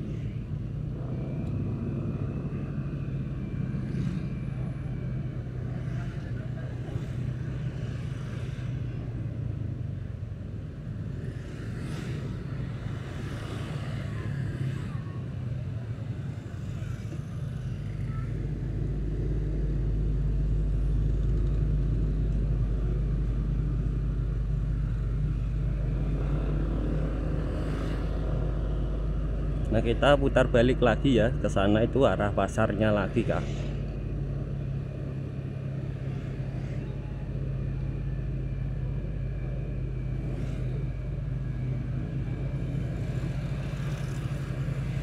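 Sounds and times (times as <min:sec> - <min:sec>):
motorbikes passing: 0:00.0 - 0:45.0.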